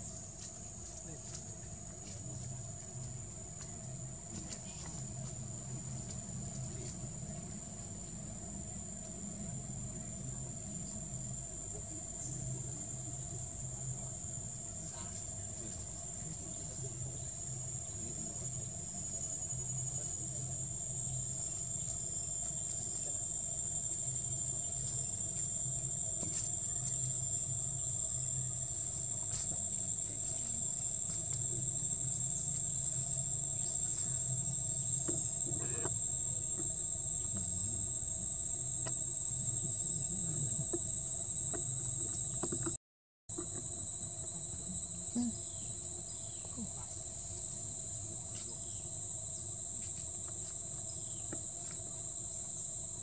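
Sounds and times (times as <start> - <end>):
faint low hum: 0.0 - 42.7, 43.3 - 53.0
insects singing high-pitched drone: 0.0 - 53.0.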